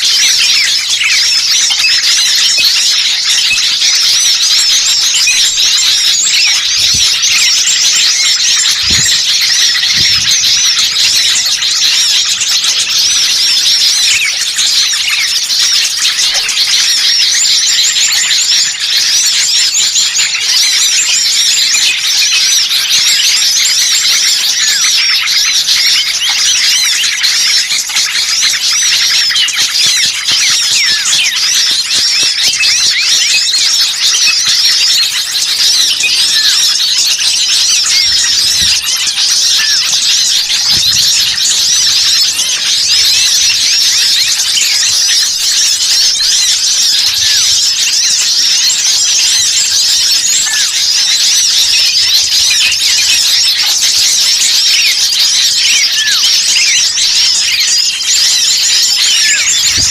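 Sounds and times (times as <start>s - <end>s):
chorus of small songbirds chirping: 0.0s - 59.9s.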